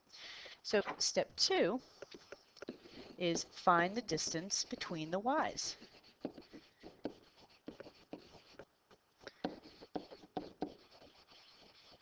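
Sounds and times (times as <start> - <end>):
stylus tapping and scratching: 0.8 - 12.0.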